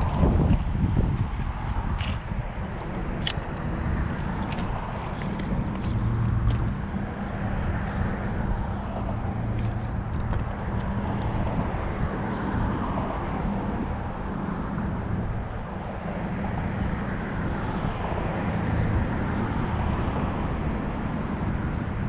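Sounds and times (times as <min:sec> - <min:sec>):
engine drone: 0:00.0 - 0:22.0
rushing outdoor noise: 0:00.0 - 0:22.0.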